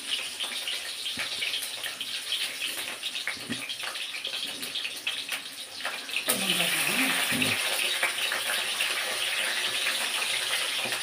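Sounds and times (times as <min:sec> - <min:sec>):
food sizzling in hot oil: 0:00.0 - 0:11.0
oil crackling and popping: 0:00.0 - 0:11.0.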